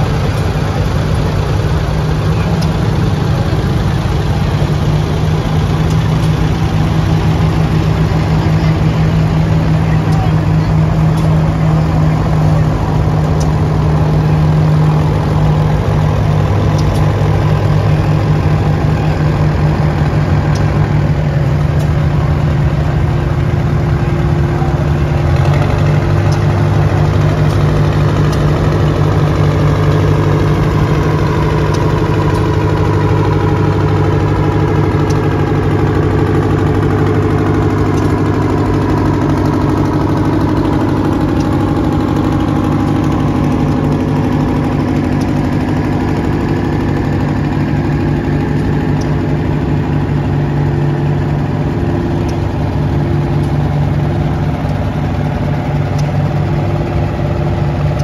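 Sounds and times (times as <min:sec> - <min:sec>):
tractor engines running slowly: 0:00.0 - 0:58.0.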